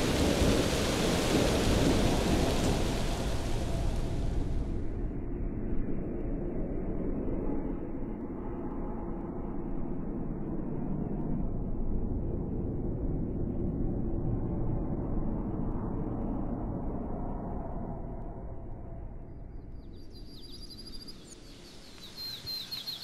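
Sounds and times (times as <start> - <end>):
steady low rumble: 0.0 - 22.8.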